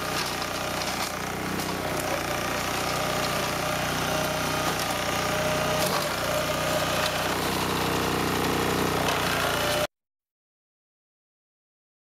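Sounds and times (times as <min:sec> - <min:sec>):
walking tractor mowing undergrowth: 0:00.0 - 0:09.9.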